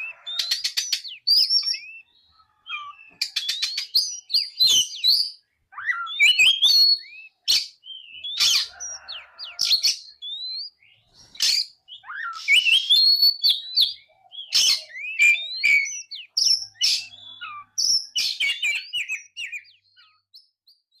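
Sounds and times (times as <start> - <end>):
bird singing whistles and clicks: 0.0 - 2.0, 2.7 - 8.7, 9.7 - 10.8, 11.4 - 20.8.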